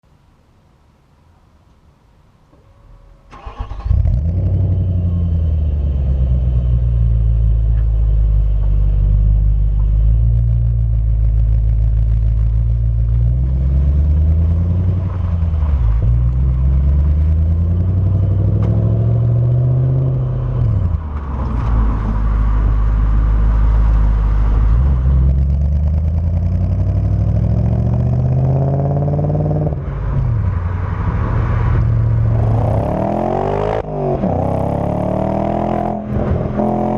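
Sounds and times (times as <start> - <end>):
car engine idling and revving: 3.4 - 36.9.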